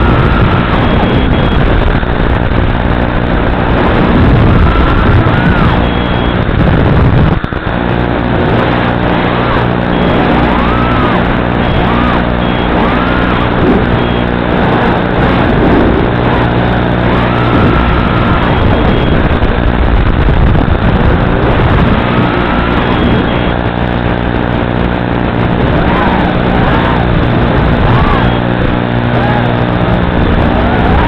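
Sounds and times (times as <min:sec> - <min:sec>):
drone propellers buzzing: 0:00.0 - 0:31.0.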